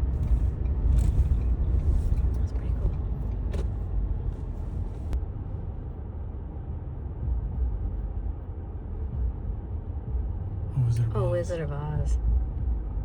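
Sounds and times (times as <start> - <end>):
road vehicle rumble: 0.0 - 13.0.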